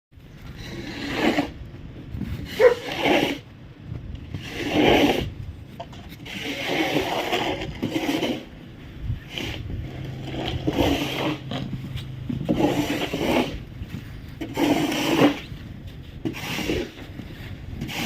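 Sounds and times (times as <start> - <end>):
snow scraping and crunching: 0.2 - 18.0.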